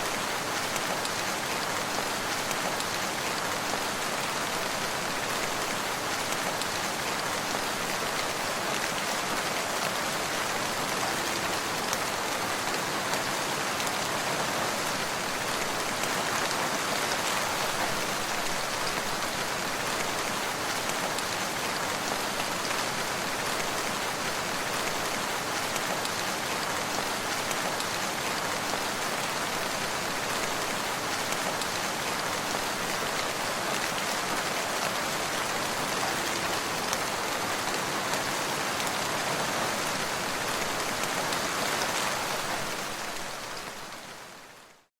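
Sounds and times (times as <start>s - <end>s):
steady rain pattering: 0.0s - 44.9s.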